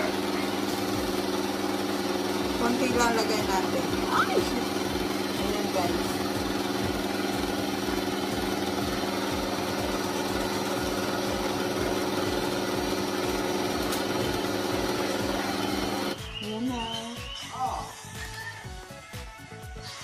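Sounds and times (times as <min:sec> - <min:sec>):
stand mixer motor hum: 0:00.0 - 0:16.2.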